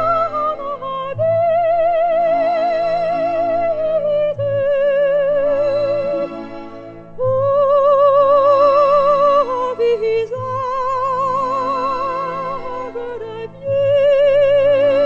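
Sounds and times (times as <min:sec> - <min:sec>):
soprano singing opera: 0:00.0 - 0:06.5, 0:07.2 - 0:15.0
soft sustained accompaniment: 0:00.0 - 0:15.0.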